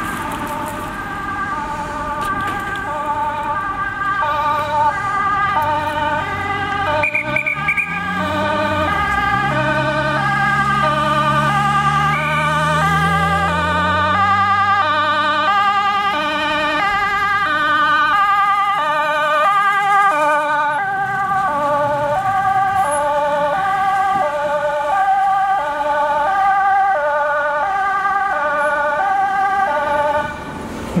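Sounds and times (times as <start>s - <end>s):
fire engine two-tone siren: 0.0s - 31.0s.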